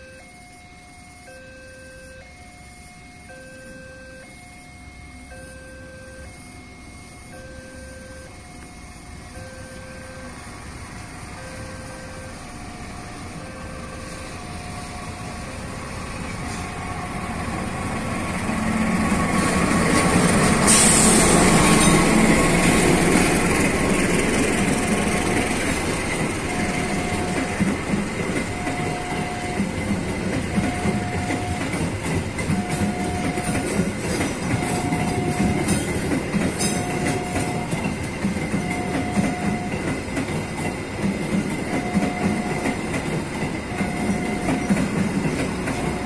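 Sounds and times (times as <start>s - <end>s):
electronic warning tone: 0.0s - 17.5s, 20.7s - 46.0s
locomotive engine: 0.0s - 46.0s.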